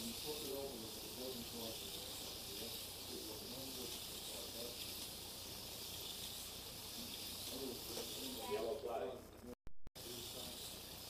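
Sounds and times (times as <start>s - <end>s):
slot cars high hiss: 0.0s - 8.9s, 10.0s - 11.0s.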